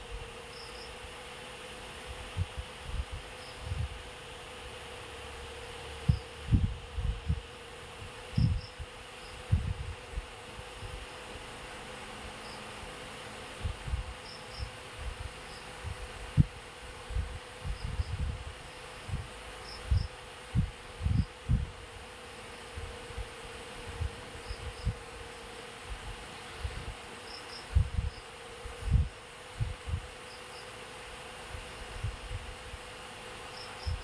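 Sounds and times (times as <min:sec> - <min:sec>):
insect-like buzzing: 0:00.0 - 0:01.2, 0:01.8 - 0:04.1, 0:05.6 - 0:34.0.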